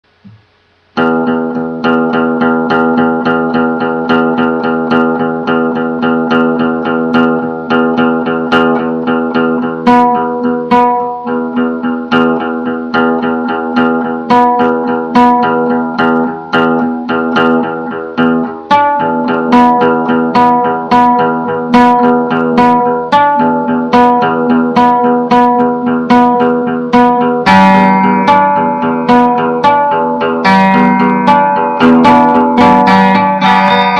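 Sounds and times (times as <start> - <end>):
guitar picking: 0.1 - 33.9.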